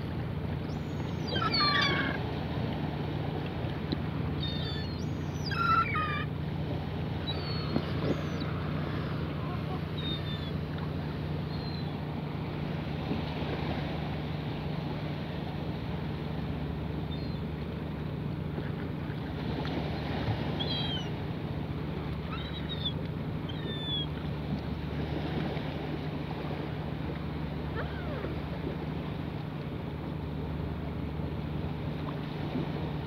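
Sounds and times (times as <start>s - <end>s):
gulls calling: 0.0s - 32.8s
wind and water: 0.0s - 33.0s.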